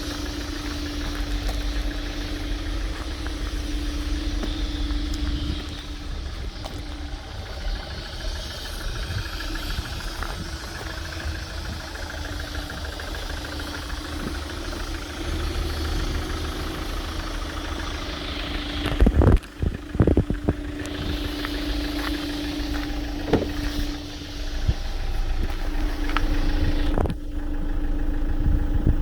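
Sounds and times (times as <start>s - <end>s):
constant low hum: 0.0s - 29.0s
suv engine idling: 0.0s - 29.0s.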